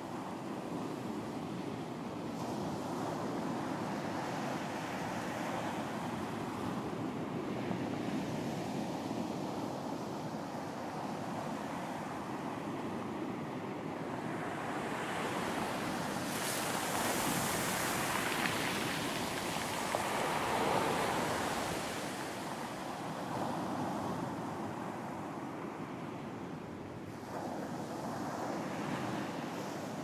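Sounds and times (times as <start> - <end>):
waves breaking on a beach: 0.0 - 30.0.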